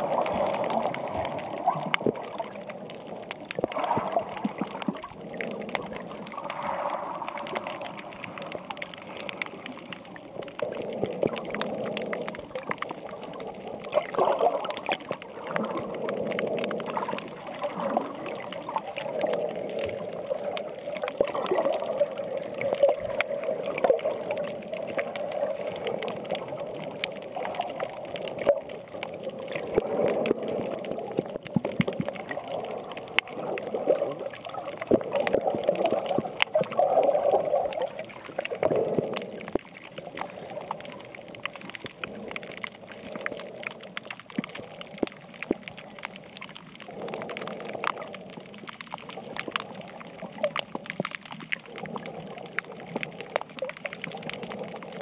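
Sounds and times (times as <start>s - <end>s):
faint clicks: 0.0s - 55.0s
water rushing and gurgling: 0.0s - 55.0s.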